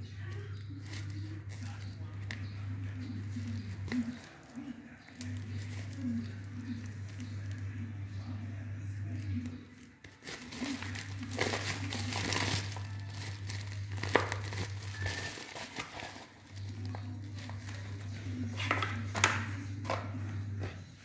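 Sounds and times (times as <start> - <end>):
plastic bag and tape crinkling: 0.0 - 7.8, 9.1 - 20.1.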